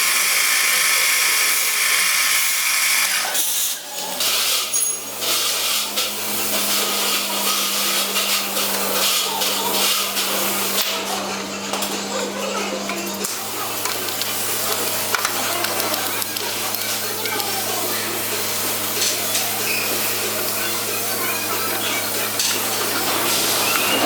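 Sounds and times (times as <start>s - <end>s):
power tool whining: 0.0s - 24.0s.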